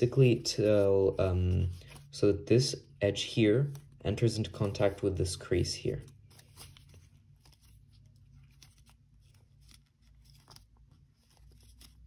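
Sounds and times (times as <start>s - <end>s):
paper crinkling: 0.0s - 2.3s, 3.3s - 12.0s.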